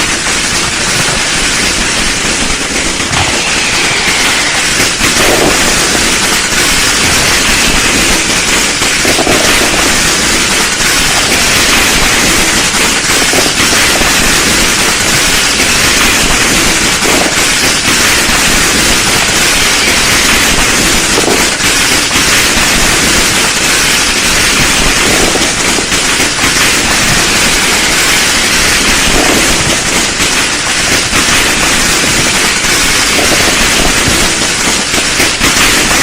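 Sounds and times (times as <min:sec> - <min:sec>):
firecrackers popping: 0:00.0 - 0:36.0.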